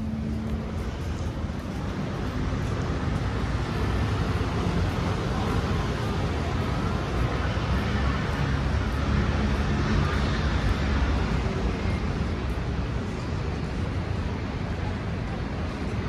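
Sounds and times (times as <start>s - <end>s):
street traffic passing: 0.0s - 16.0s.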